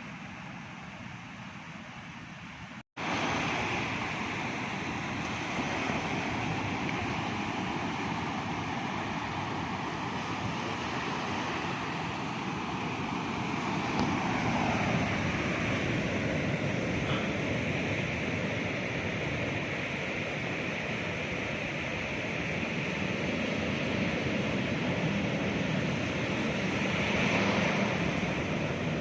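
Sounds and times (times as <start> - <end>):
wind on microphone: 2.6 - 29.0
ocean surf breaking: 3.0 - 29.0.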